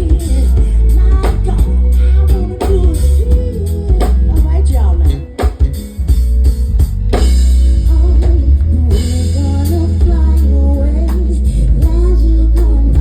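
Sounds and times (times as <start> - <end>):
wavering melody line: 0.0 - 12.6
live band playing: 0.0 - 13.0.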